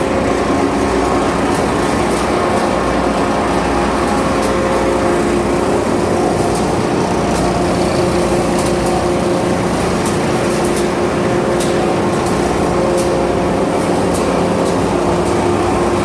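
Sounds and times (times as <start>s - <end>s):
pellet mill machine hum: 0.0s - 16.0s.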